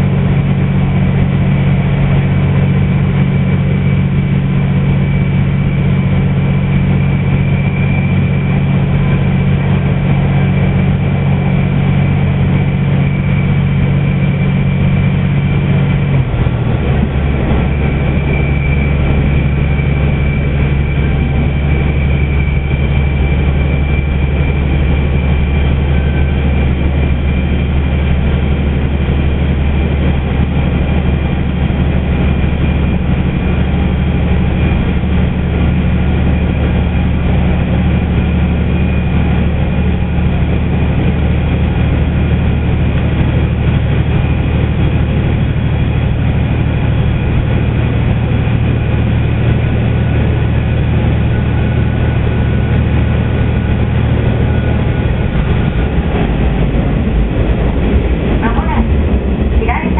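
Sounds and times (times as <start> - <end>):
diesel engine drone: 0.0 - 59.9
wheel and rail rumble: 0.0 - 59.9.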